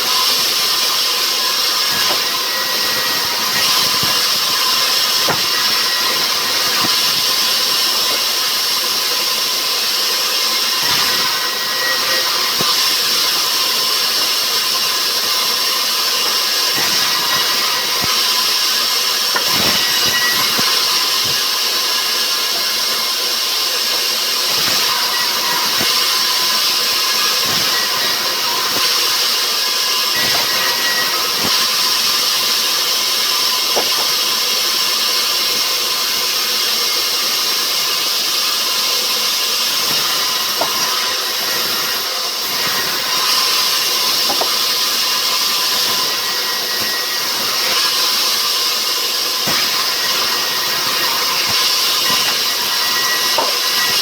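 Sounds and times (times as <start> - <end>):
sawmill machinery rushing: 0.0 - 54.0.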